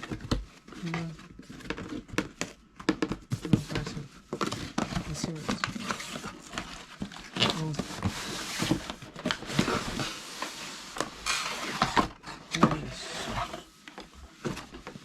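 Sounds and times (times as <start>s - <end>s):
cardboard and plastic packaging handled: 0.0s - 15.0s.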